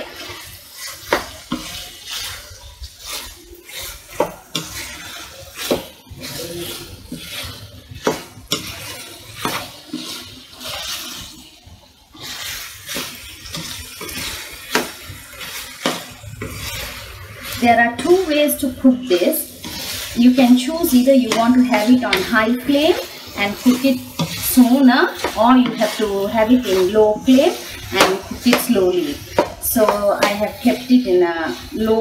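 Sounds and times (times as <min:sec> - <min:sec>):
liver sizzling in oil: 0:00.0 - 0:32.0
spatula scraping frying pan: 0:00.0 - 0:32.0.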